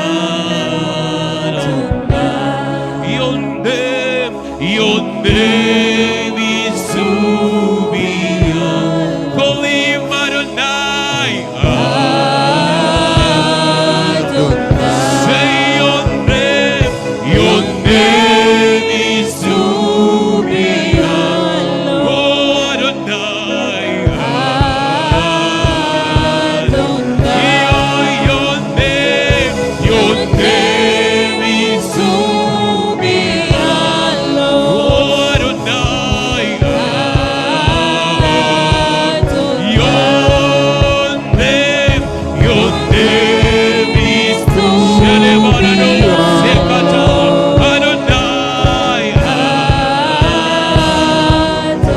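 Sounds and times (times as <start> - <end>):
voices singing worship song: 0.0 - 51.9
steady beat: 4.6 - 51.9.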